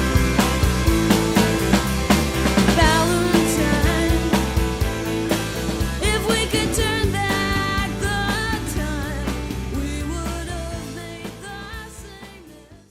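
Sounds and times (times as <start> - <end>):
song with singing and band: 0.0 - 12.9.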